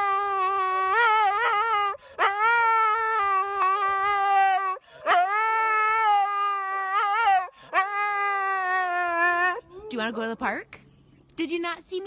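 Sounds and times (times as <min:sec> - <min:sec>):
husky howling: 0:00.0 - 0:10.1.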